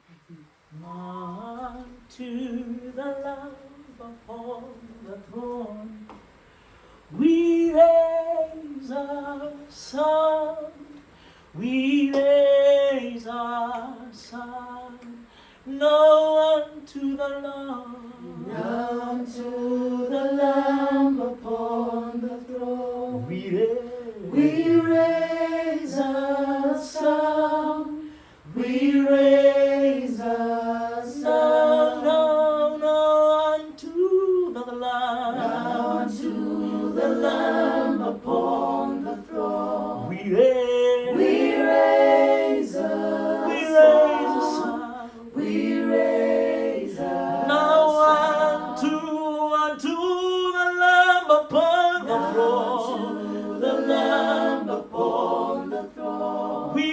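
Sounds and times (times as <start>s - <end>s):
a cappella gospel singing: 0.0s - 56.9s.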